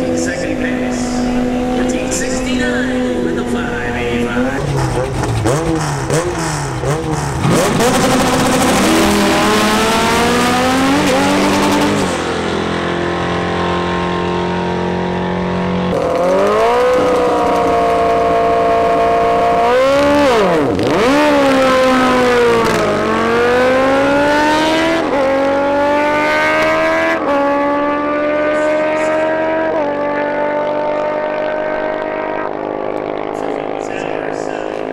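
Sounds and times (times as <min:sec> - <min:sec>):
car engine revving hard: 0:00.0 - 0:34.9
motorcycles revving and launching: 0:00.0 - 0:34.9.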